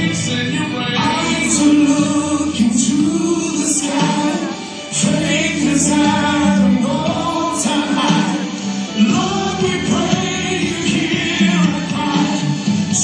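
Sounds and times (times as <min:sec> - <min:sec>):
gospel choir singing: 0:00.0 - 0:13.0
instrumental backing: 0:00.0 - 0:13.0.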